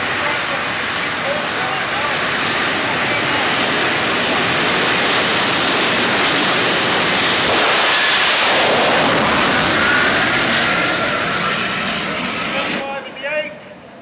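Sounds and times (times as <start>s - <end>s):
high turbine whine: 0.0s - 14.0s
jet engine roaring: 0.0s - 14.0s.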